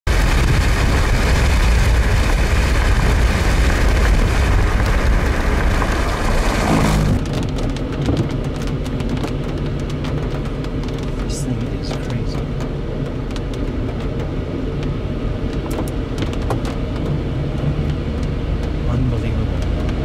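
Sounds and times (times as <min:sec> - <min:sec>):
wind and road noise: 0:00.0 - 0:20.0
low engine hum: 0:00.1 - 0:20.0.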